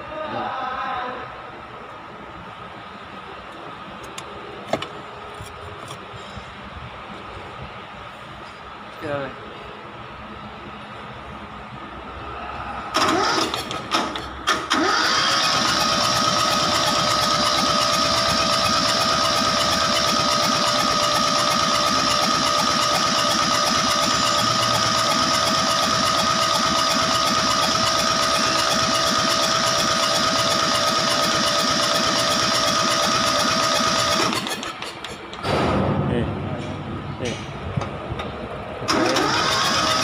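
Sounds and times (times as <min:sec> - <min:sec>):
diesel engine running: 0:01.5 - 0:40.0.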